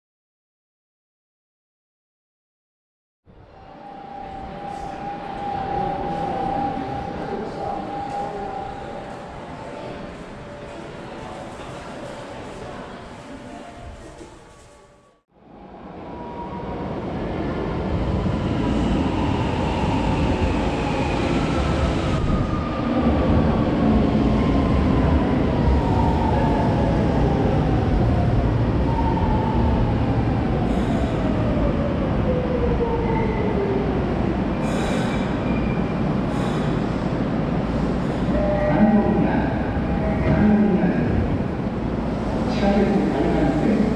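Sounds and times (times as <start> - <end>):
subway train braking to a stop: 3.3 - 43.9.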